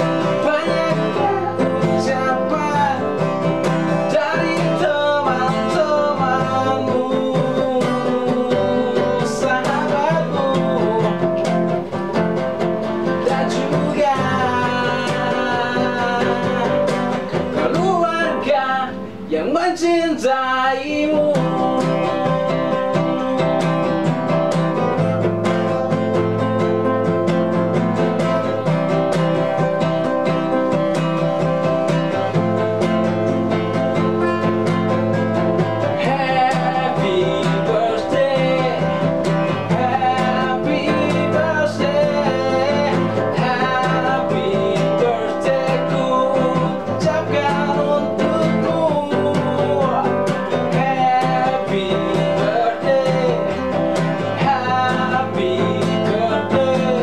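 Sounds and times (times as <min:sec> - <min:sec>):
man singing: 0:00.0 - 0:27.0, 0:28.0 - 0:57.0
acoustic guitars playing: 0:00.0 - 0:57.0.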